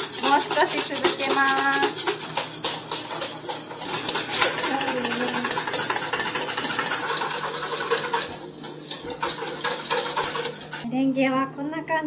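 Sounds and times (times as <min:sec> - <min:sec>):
whisk beating in a metal bowl: 0:00.0 - 0:10.9.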